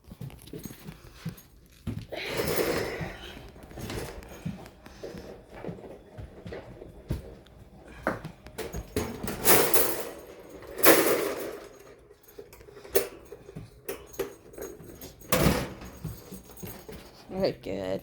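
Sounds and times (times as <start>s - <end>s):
knocks and clatters of objects: 0.0s - 17.3s.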